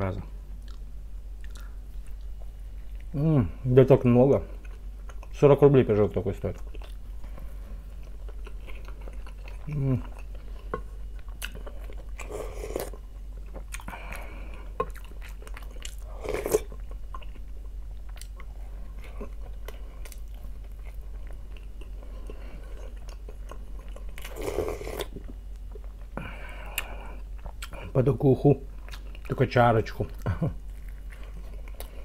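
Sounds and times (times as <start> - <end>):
person chewing: 0.6 - 3.2, 4.4 - 5.4, 6.4 - 27.9, 28.7 - 29.4, 30.1 - 32.0.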